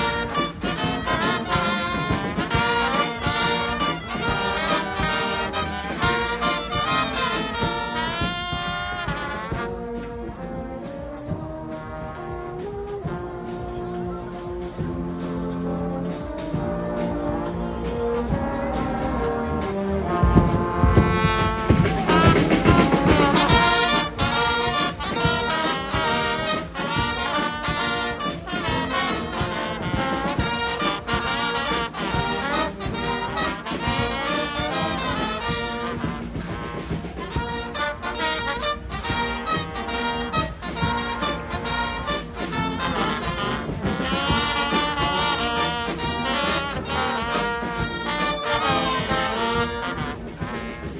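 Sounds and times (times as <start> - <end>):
bass drum and cymbal beat: 0.0 - 50.9
brass band playing: 0.0 - 50.9
rising brass glide: 0.0 - 50.9.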